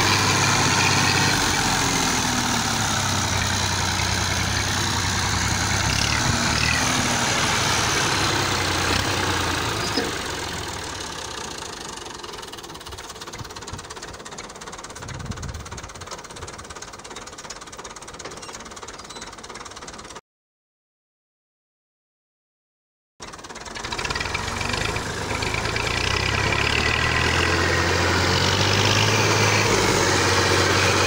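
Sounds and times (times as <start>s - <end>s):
tractor diesel engine running: 0.0s - 20.2s, 23.2s - 31.0s.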